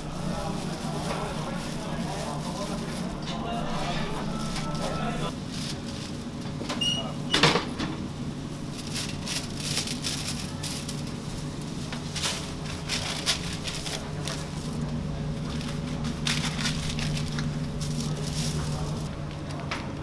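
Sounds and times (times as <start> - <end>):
foil and paper crinkling: 0.0 - 6.4, 8.5 - 19.7
kitchen equipment hum: 0.0 - 20.0.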